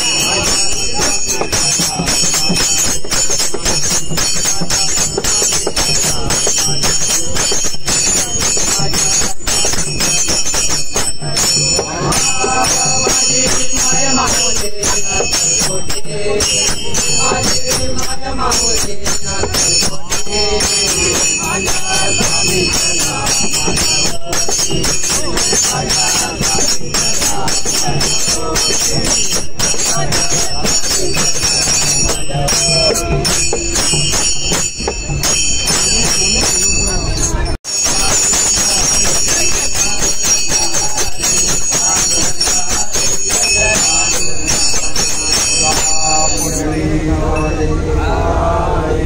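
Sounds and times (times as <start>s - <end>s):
hand drum: 0.0s - 46.6s
jingles: 0.0s - 46.7s
small brass hand cymbals ringing: 0.0s - 46.7s
men singing together: 0.0s - 49.0s.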